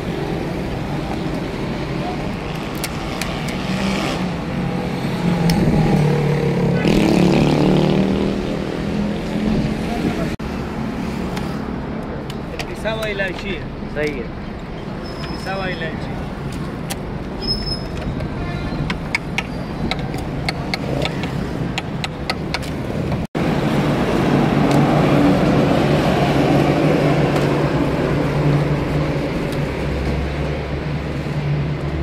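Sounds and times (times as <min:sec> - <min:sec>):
street traffic: 0:00.0 - 0:32.0.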